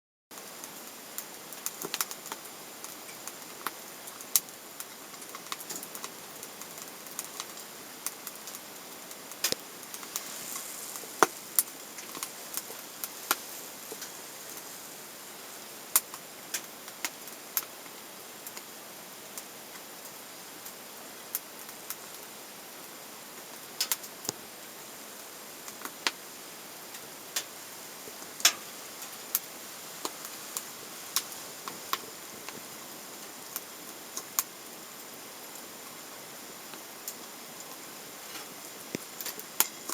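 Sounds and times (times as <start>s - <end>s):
stove fire hissing: 0.3s - 39.9s
wood fire crackling and popping: 0.4s - 22.3s, 23.4s - 39.9s.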